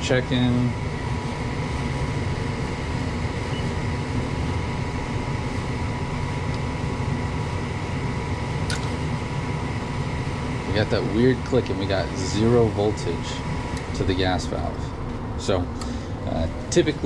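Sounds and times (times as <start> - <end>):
blower running with faint whine: 0.0 - 17.0.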